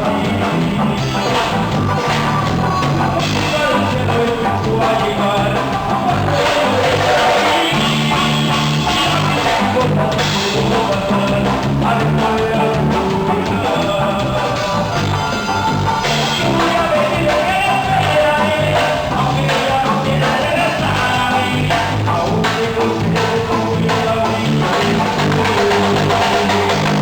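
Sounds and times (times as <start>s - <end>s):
lively dance band music: 0.0s - 27.0s.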